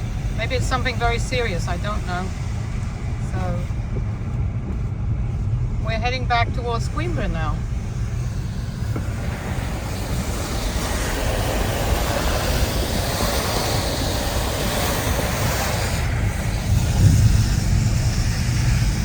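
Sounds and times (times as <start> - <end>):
wet hiss of rain: 0.0 - 4.1, 5.8 - 19.0
road rumble inside car: 0.0 - 19.0.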